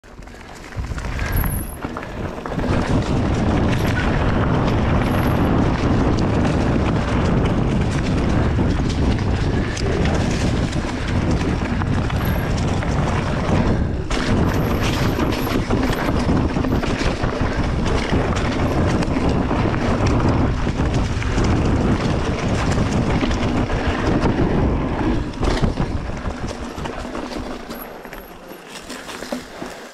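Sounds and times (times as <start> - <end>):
bike rattling: 0.0 - 29.9
bike tyres rumbling: 0.0 - 29.9
wind rushing over microphone: 0.2 - 27.7.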